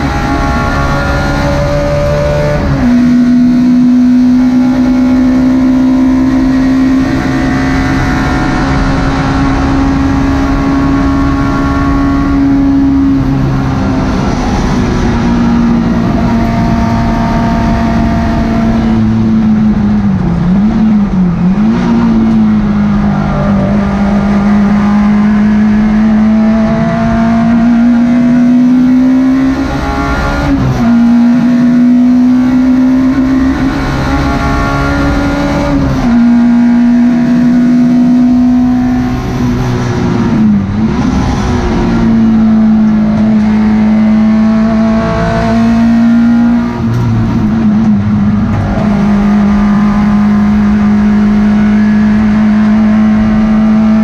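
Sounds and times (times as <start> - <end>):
car engine running at high revs: 0.0 - 54.0.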